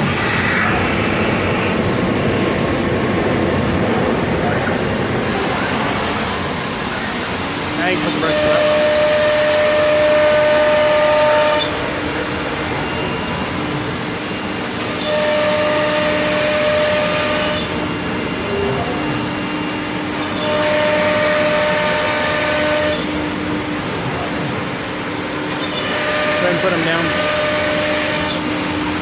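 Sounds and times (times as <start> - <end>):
cnc router whining: 0.0 - 29.0.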